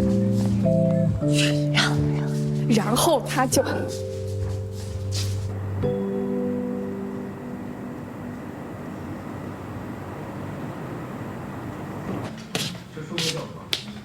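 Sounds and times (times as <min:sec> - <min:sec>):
held musical notes: 0:00.0 - 0:11.3.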